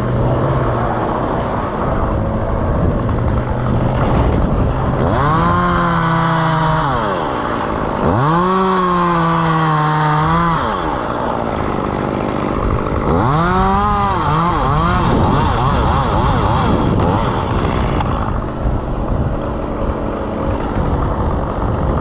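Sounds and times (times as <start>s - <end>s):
chainsaw idling and revving: 0.0s - 22.0s.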